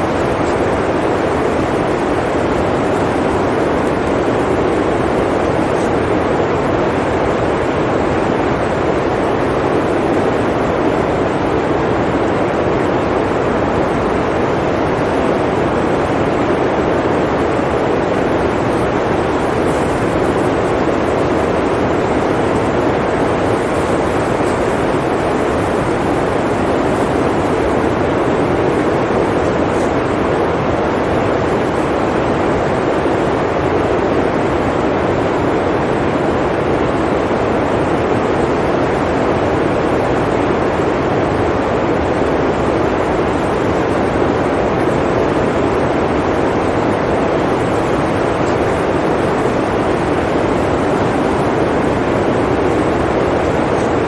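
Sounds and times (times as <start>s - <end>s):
blizzard wind blowing: 0.0s - 54.0s.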